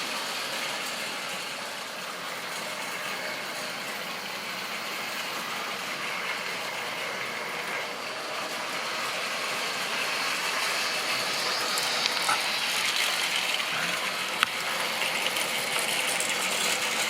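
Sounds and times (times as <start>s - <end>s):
model train rattling on track: 0.0s - 17.0s.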